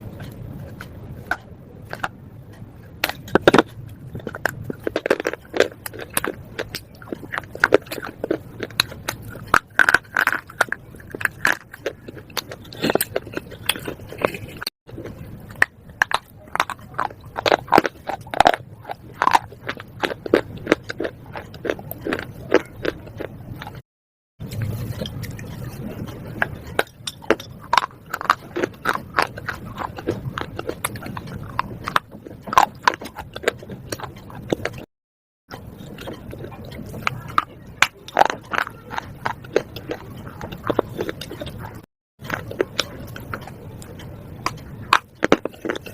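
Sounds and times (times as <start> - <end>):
person chewing hard crunchy pencils: 0.0 - 23.8, 24.4 - 34.9, 35.5 - 45.9.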